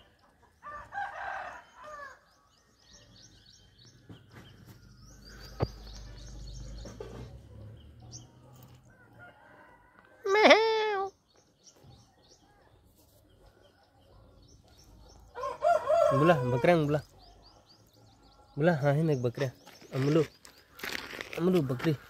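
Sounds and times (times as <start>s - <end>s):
small birds chirping: 0.0s - 9.0s, 11.0s - 22.0s.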